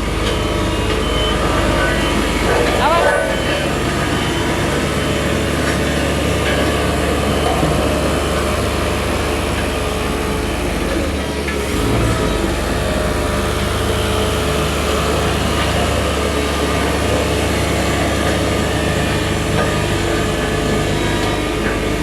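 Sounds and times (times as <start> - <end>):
heavy machine engine droning: 0.0 - 22.0.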